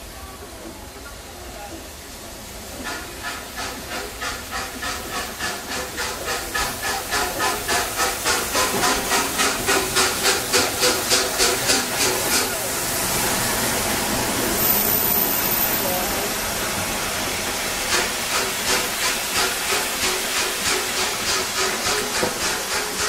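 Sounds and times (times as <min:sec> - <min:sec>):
steady steam hiss: 0:00.0 - 0:23.0
steam locomotive exhaust beats: 0:02.4 - 0:23.0.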